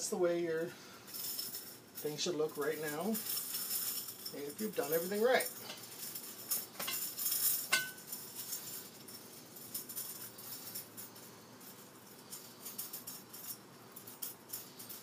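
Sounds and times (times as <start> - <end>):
steel spokes clinking and rattling: 0.0 - 15.0
metallic clink with ring: 2.6 - 15.0.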